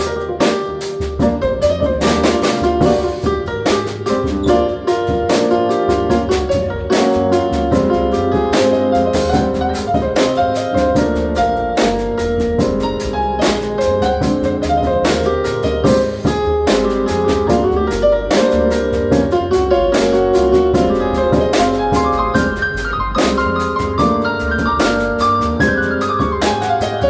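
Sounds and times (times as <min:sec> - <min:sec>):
drum kit with cymbal strokes: 0:00.0 - 0:27.0
piano running lines: 0:00.0 - 0:27.0
low bass line: 0:01.0 - 0:26.4.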